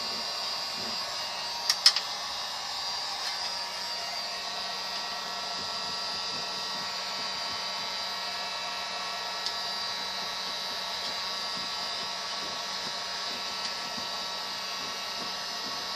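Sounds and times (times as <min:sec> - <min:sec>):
electric blower motor whining: 0:00.0 - 0:15.9.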